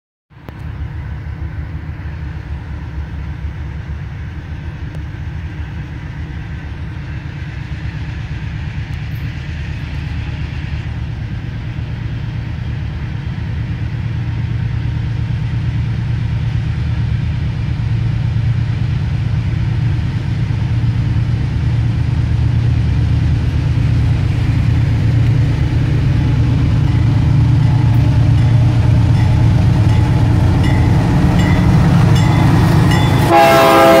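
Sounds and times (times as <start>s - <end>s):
diesel locomotive engine drone: 0.3s - 34.0s.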